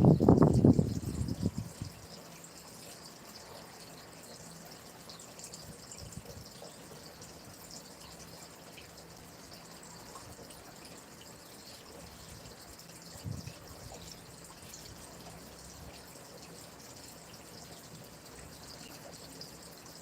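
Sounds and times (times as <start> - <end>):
stream water babbling: 0.0 - 20.0
water drips and splashes: 0.0 - 20.0.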